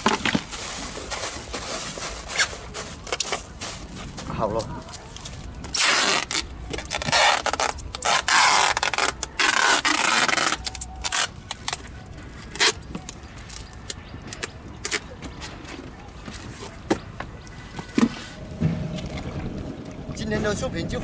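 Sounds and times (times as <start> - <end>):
scraping and rustling handling noise: 0.0 - 19.4.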